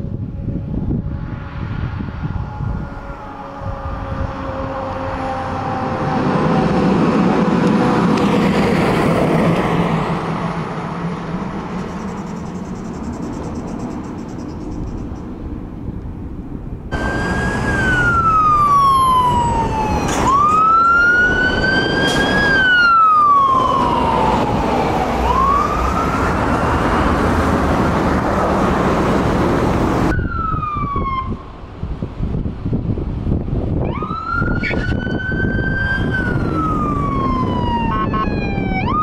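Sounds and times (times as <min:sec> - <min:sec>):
fire engine siren wailing: 0:00.0 - 0:11.8, 0:16.9 - 0:32.0, 0:33.6 - 0:39.0
truck engine and road noise: 0:00.0 - 0:39.0.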